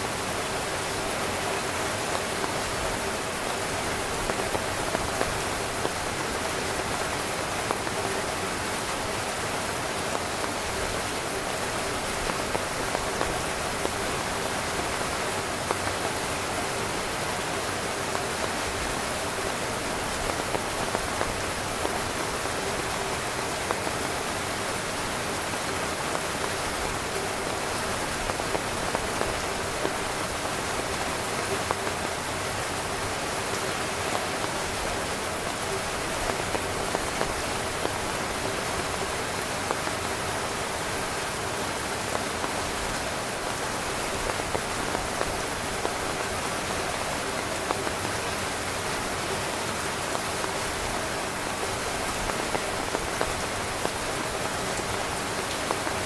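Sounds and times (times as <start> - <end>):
heavy rain drumming on tent: 0.0 - 56.0.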